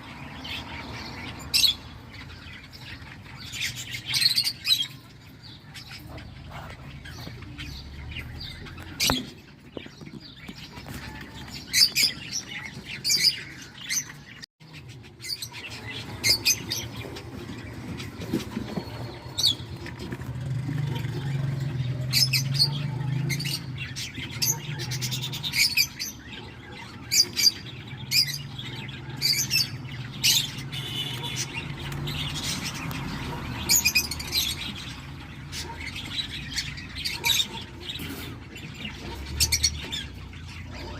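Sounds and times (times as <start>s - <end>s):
chicks chirping: 0.0s - 40.9s.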